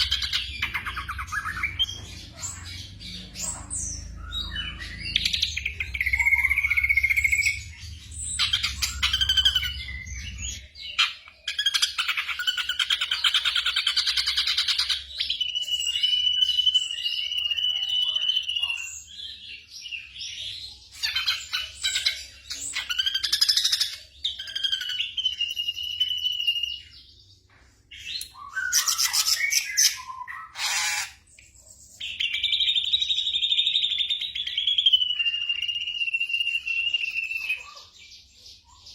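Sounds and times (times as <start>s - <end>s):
bird singing chattering phrases: 0.0s - 38.9s.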